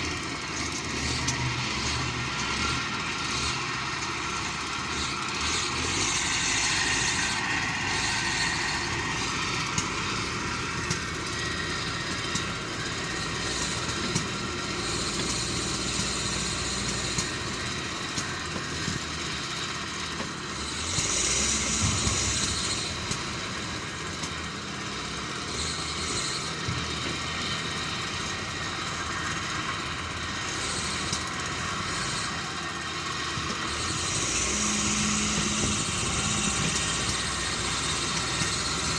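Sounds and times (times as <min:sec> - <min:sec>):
heavy machine diesel engine running: 0:00.0 - 0:38.9.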